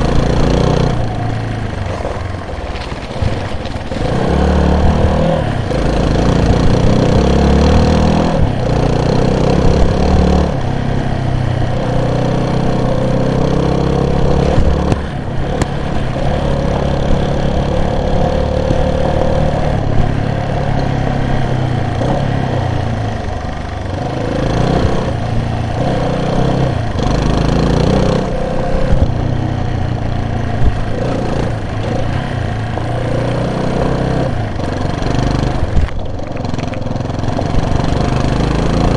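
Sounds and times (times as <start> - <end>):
vehicle engine revving while driving: 0.0 - 38.9.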